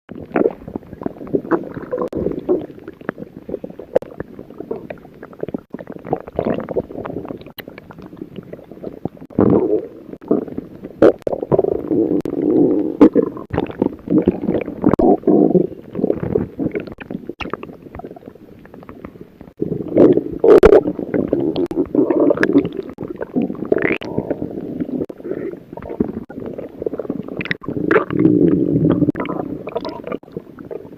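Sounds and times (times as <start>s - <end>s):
stomach growling and gurgling: 0.1s - 30.9s.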